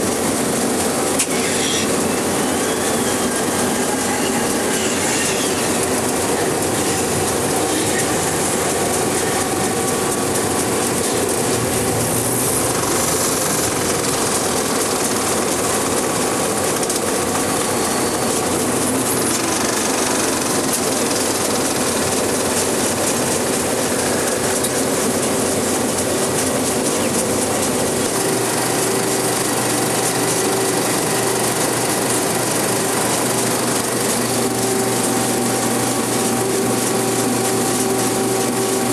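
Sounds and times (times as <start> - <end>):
film projector clatter and whir: 0.0 - 38.9
steady hum: 0.0 - 38.9.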